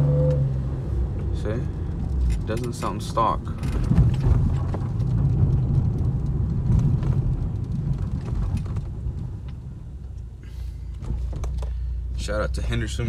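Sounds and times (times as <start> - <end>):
car engine and exhaust droning: 0.0 - 13.0.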